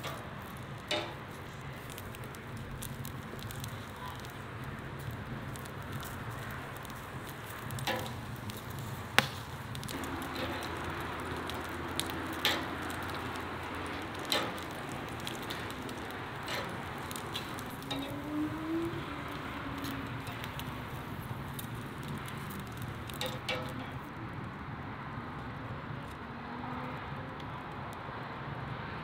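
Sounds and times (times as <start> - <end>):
sharp pops: 0.0 - 24.1
sausages sizzling on a grill: 0.0 - 25.3.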